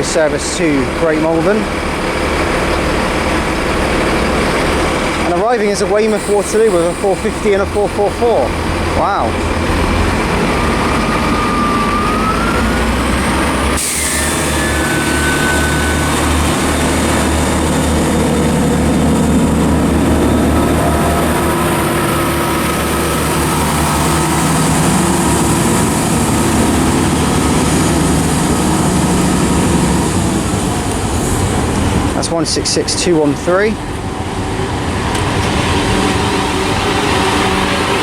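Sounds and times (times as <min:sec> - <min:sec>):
diesel train engine running: 0:00.0 - 0:38.0
electric train whine: 0:00.8 - 0:32.6, 0:33.2 - 0:38.0.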